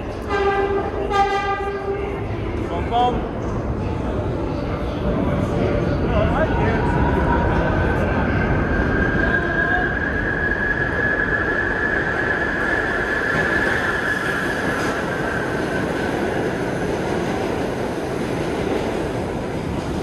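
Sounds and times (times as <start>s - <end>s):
subway train rumbling on track: 0.0s - 20.0s.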